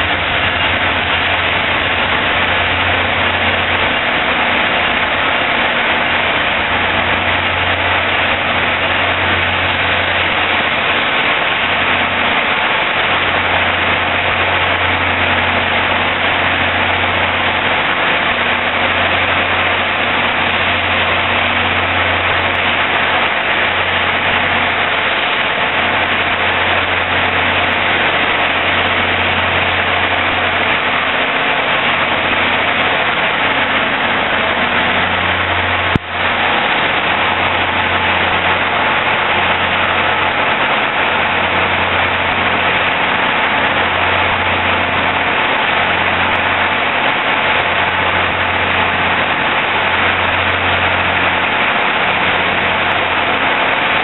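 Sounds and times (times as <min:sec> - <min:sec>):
locomotive engine rumble: 0:00.0 - 0:54.0.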